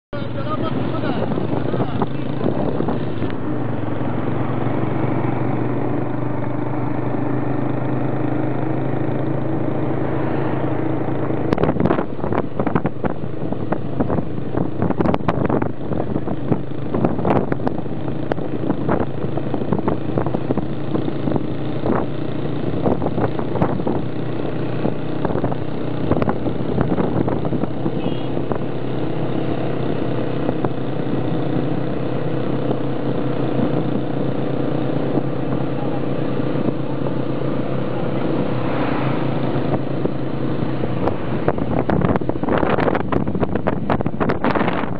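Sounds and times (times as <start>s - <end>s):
motorcycle engines droning: 0.1s - 44.9s.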